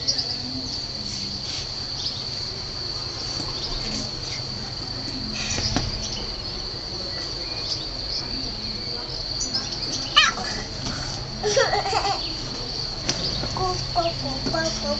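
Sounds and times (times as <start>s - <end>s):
high-pitched insect trill: 0.0s - 14.9s.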